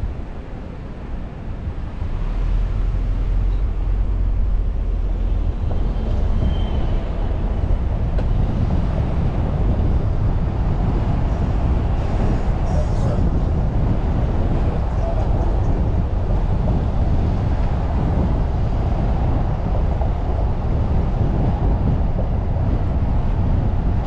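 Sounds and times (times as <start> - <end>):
car engine and tyre rumble: 0.0 - 24.0
traffic noise: 0.0 - 24.0.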